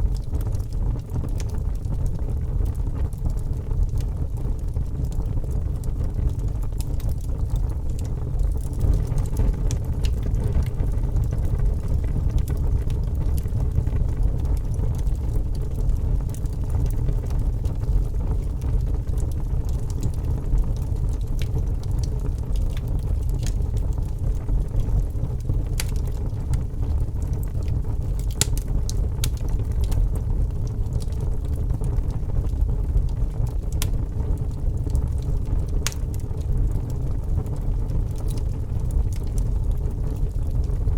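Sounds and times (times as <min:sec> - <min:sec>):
fire crackles and pops: 0:00.0 - 0:40.9
low rumble of flames: 0:00.0 - 0:40.9.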